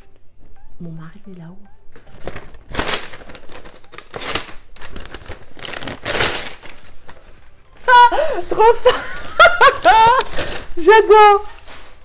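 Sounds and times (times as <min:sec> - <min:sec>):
gift wrapping rustling and crinkling: 0:02.0 - 0:12.0.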